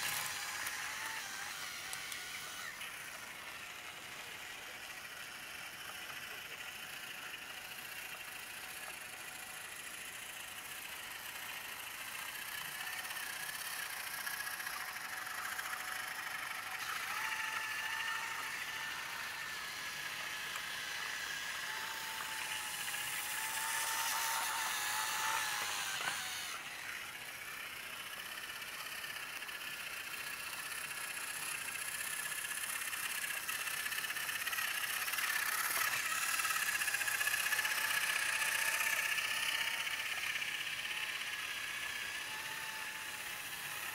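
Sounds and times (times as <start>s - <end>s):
toy train motors whirring: 0.0s - 43.9s.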